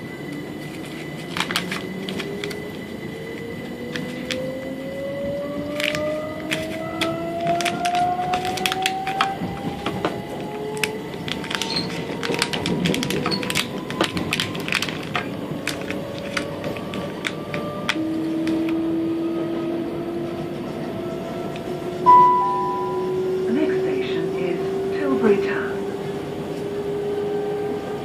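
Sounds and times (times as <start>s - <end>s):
train motor whine: 0.0s - 28.0s
train wheels rumbling on track: 0.0s - 28.0s.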